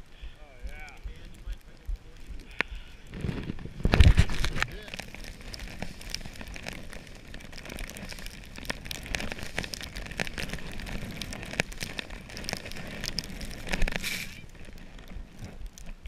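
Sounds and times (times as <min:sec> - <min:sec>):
skis running through powder snow: 0:02.2 - 0:16.0.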